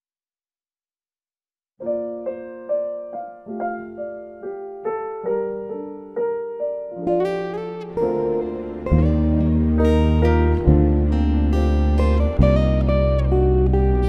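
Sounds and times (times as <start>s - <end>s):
slow piano chords: 1.8s - 14.0s.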